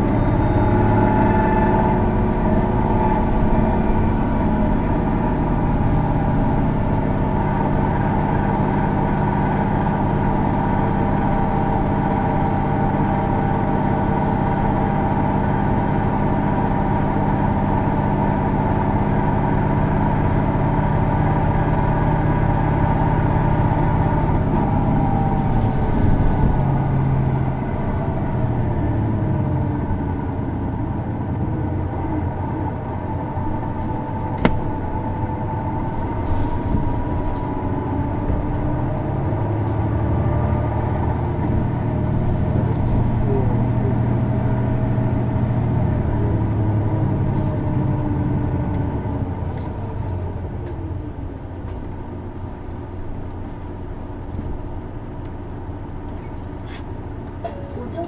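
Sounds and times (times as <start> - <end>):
bus diesel engine driving: 0.0 - 58.0.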